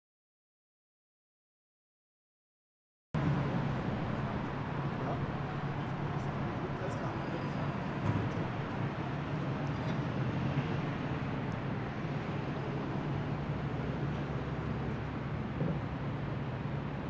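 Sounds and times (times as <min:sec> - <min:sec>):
motor vehicles rumbling: 0:03.2 - 0:17.0.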